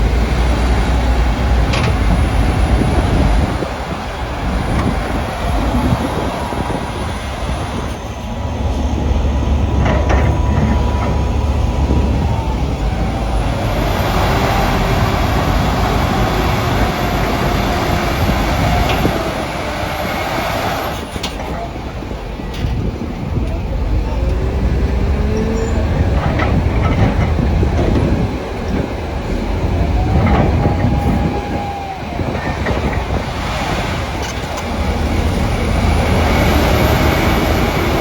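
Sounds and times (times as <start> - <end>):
heavy vehicle low rumble: 0.0 - 38.0.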